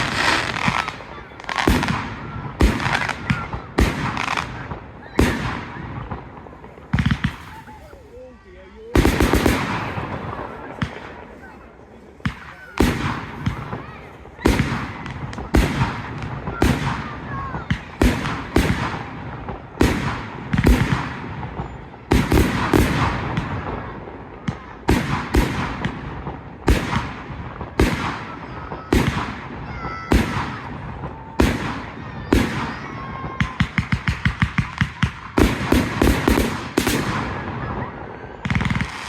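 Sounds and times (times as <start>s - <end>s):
fireworks bangs: 0.0s - 39.0s.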